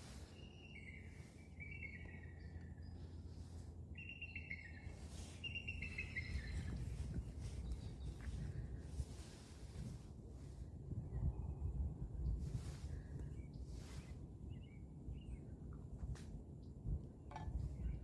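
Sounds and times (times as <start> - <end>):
songbird singing: 0.0 - 9.6, 11.0 - 16.0, 16.6 - 18.0
low background rumble: 0.0 - 18.0.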